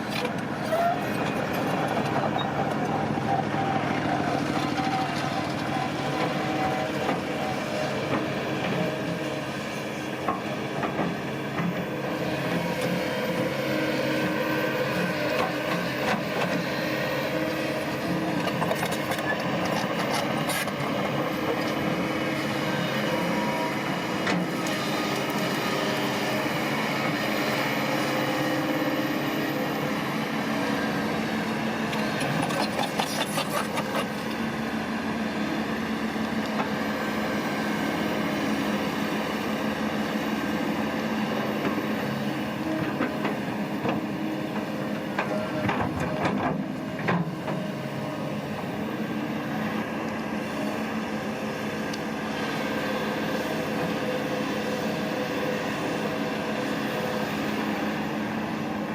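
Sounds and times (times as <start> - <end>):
diesel engine of heavy machine: 0.0 - 58.9.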